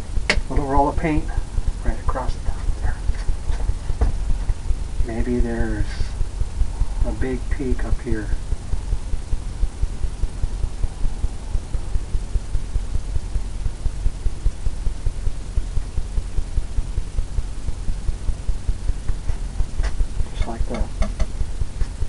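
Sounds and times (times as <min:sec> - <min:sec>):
low throbbing hum: 0:00.0 - 0:22.0.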